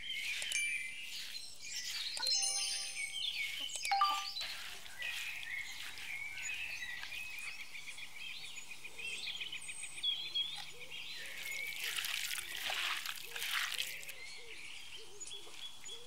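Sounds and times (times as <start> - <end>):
birds chirping and singing: 0.0 - 12.7, 13.3 - 16.0.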